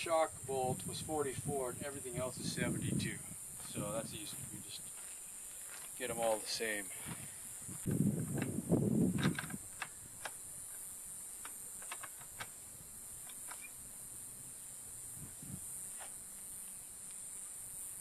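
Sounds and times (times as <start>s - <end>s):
steady high-pitched hiss: 0.0s - 18.0s.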